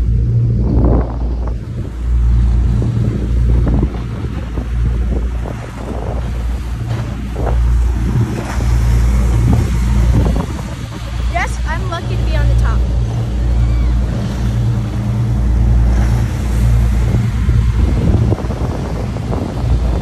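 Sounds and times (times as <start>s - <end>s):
boat engine and wake rushing: 0.0s - 20.0s
wind buffeting microphone: 0.0s - 20.0s.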